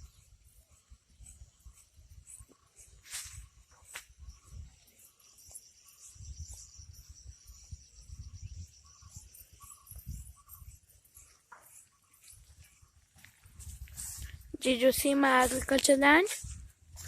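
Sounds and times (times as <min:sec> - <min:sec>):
crickets trilling: 0:00.0 - 0:16.2.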